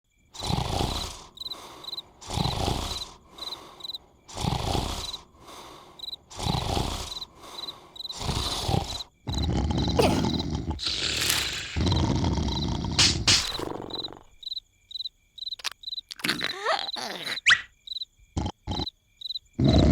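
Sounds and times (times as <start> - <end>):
cartoon snoring: 0.4 - 14.4, 15.6 - 17.7, 18.4 - 18.9, 19.6 - 19.9.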